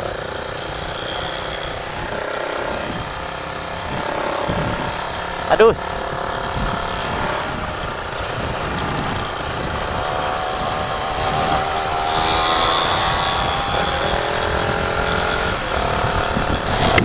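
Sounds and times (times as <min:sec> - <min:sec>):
motorcycle engine at high revs: 0:00.0 - 0:17.0
wind rumble on microphone: 0:00.0 - 0:17.0.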